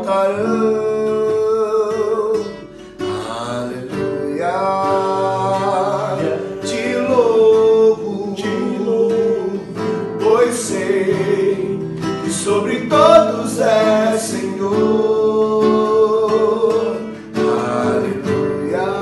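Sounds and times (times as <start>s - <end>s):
person singing: 0.0s - 19.0s
strummed acoustic guitar: 0.0s - 19.0s.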